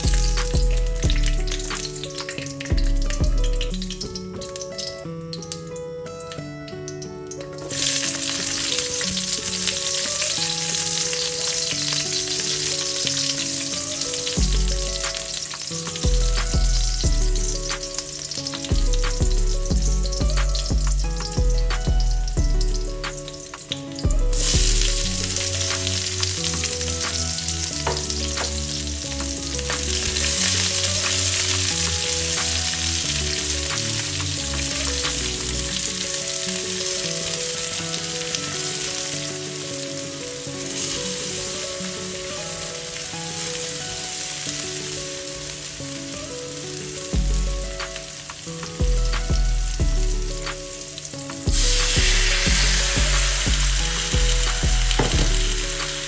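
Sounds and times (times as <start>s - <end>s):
onions sizzling in oil: 0.0s - 5.7s, 6.3s - 56.0s.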